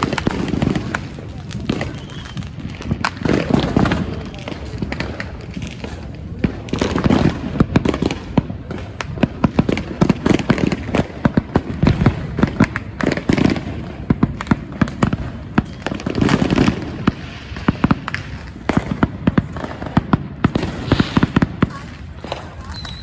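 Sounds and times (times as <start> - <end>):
fireworks crackling pops: 0.0 - 23.0
fireworks low booms: 0.0 - 23.0.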